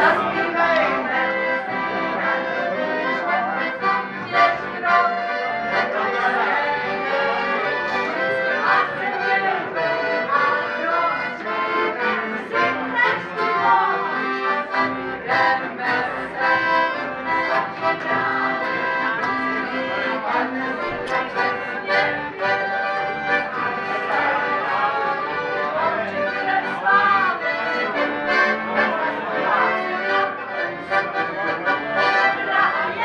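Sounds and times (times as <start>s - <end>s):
accordion playing a tune: 0.0s - 33.0s.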